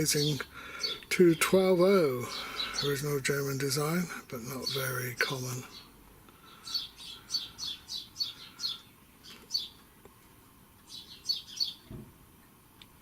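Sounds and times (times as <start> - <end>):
small songbird chirping: 0.0 - 10.1, 10.8 - 12.0.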